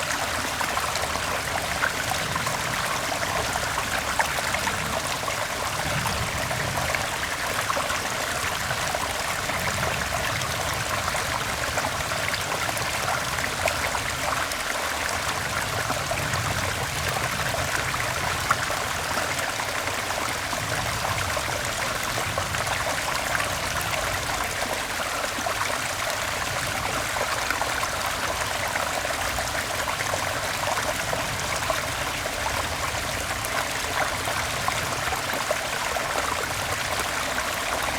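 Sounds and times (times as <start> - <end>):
stream water flowing: 0.0 - 37.9.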